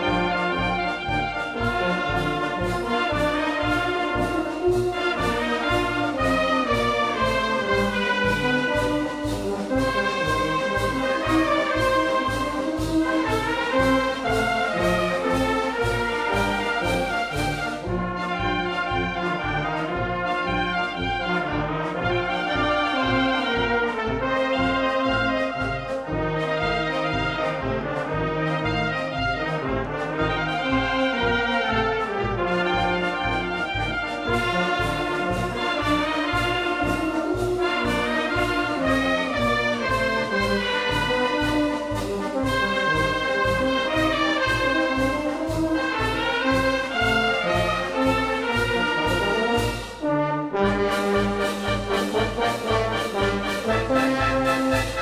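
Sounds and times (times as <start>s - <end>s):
steady drum beat: 0.0s - 55.0s
wind band playing a march: 0.0s - 55.0s.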